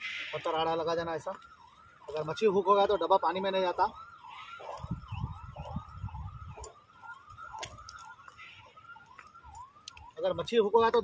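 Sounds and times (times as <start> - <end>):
electronic yelp siren: 0.0 - 11.0.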